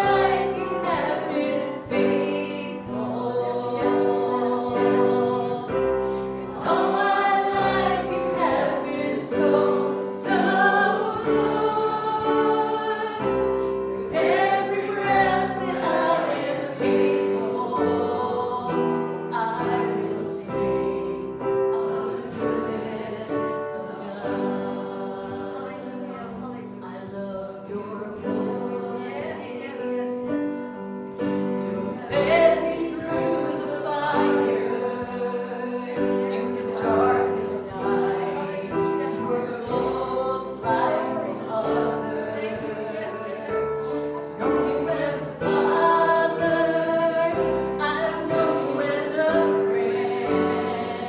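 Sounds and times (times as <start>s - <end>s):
group singing a hymn: 0.0s - 51.0s.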